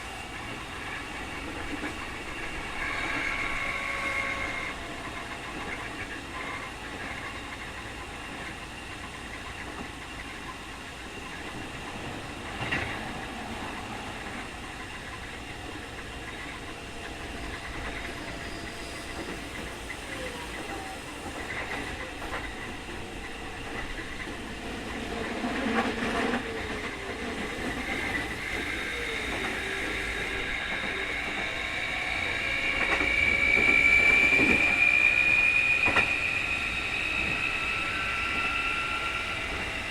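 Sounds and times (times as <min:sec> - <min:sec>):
electric train running: 0:00.0 - 0:39.9.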